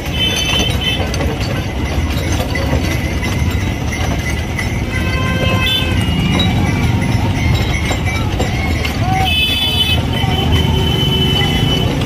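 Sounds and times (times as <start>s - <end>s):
cart wheels rumbling and rattling: 0.0s - 12.0s
hooves clopping: 0.0s - 12.0s.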